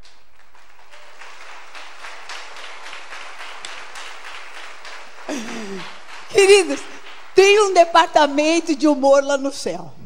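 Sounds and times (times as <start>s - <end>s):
crowd clapping: 0.0s - 9.0s.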